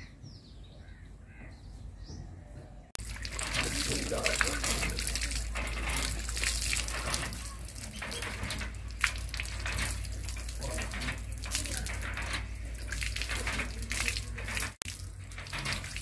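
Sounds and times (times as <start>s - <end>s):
water splashing onto concrete: 3.0s - 16.0s.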